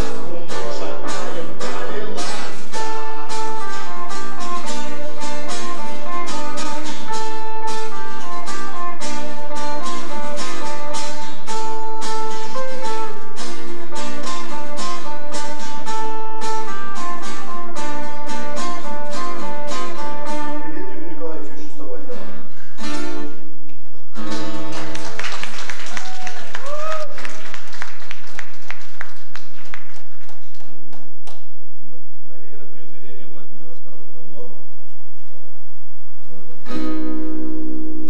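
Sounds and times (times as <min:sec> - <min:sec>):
acoustic guitar strumming: 0:00.0 - 0:31.8, 0:35.1 - 0:38.0.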